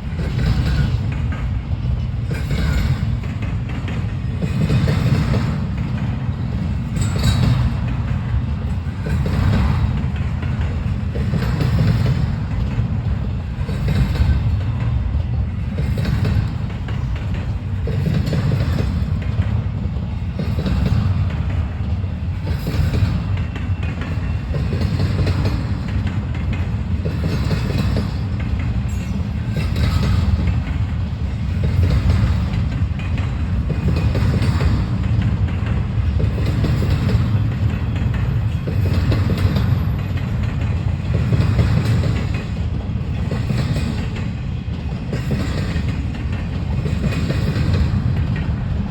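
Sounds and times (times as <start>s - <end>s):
freight train rumbling past: 0.0s - 48.9s
wheels clacking over track: 0.0s - 48.9s.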